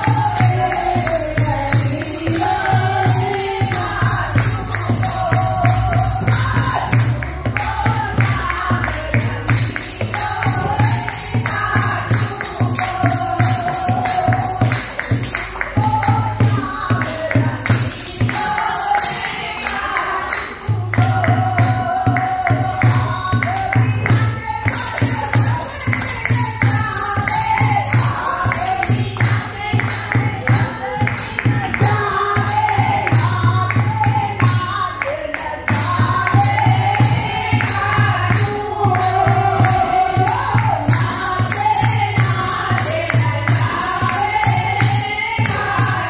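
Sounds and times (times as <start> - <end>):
hand clapping: 0.0 - 46.0
hand drums: 0.0 - 46.0
jingling hand percussion: 0.0 - 46.0
women singing devotional song: 0.0 - 46.0.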